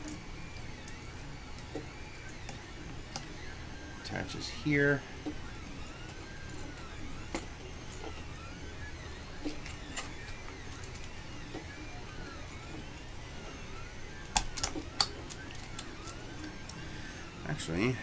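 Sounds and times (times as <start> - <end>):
printer stepper motors whining: 0.0 - 18.0.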